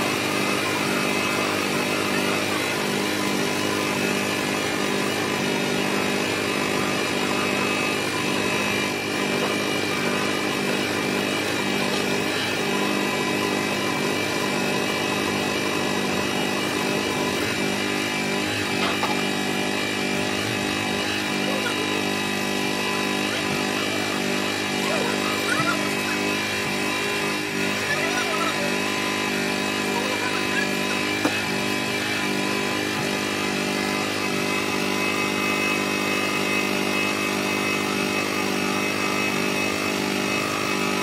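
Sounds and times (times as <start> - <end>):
buffing motor humming: 0.0 - 41.0.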